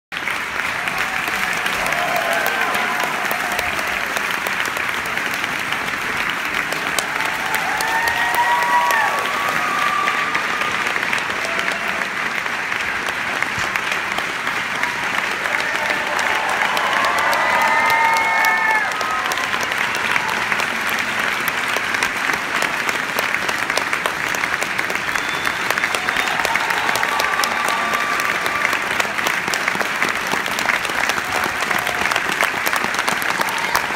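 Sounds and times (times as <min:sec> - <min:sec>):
audience applauding: 0:00.1 - 0:33.9.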